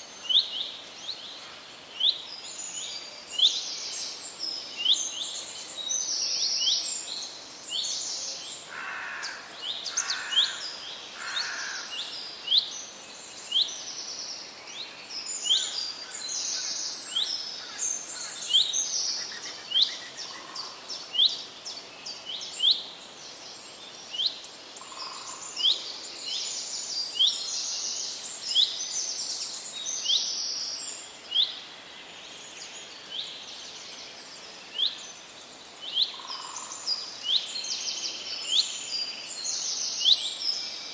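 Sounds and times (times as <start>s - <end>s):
background hiss: 0.0s - 40.9s.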